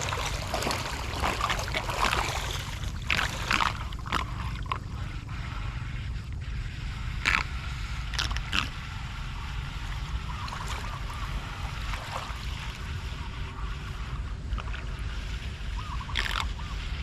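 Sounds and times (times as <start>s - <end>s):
floodwater flowing and gurgling: 0.0s - 17.0s
steady low rumble: 0.0s - 17.0s.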